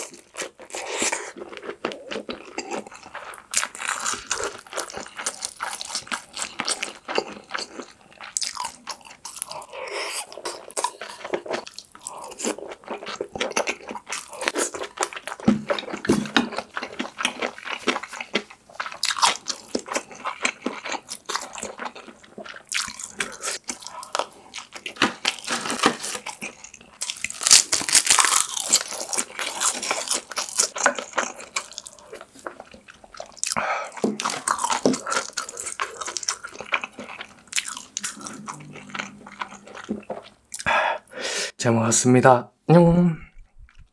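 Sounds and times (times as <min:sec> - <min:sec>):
wet chewing and crunching: 0:00.0 - 0:40.7.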